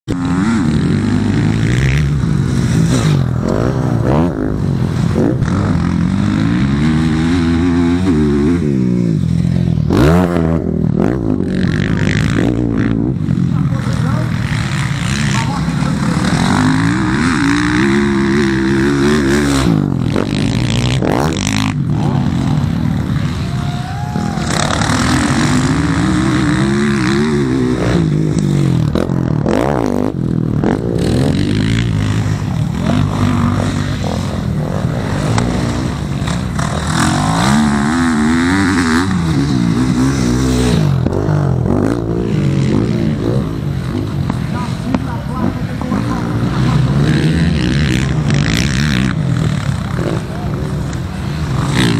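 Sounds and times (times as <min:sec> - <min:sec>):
motocross engines revving: 0:00.0 - 0:51.9.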